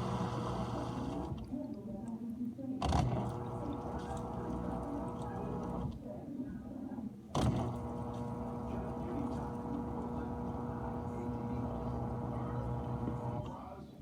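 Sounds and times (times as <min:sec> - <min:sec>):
dishwasher pump humming: 0:00.0 - 0:01.7, 0:02.8 - 0:06.1, 0:07.4 - 0:13.7.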